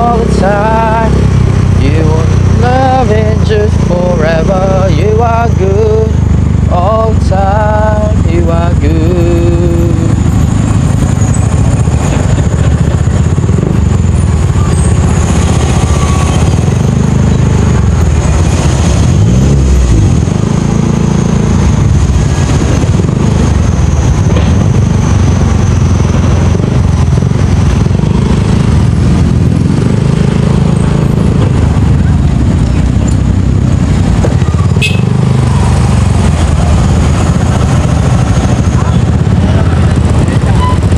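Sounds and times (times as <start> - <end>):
motorcycle engine rumbling: 0.0 - 40.9.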